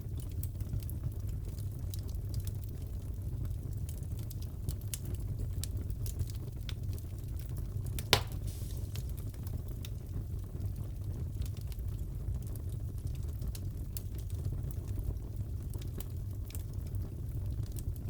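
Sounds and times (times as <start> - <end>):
low steady fire rumble: 0.0 - 18.0
wood fire crackling: 0.0 - 18.0.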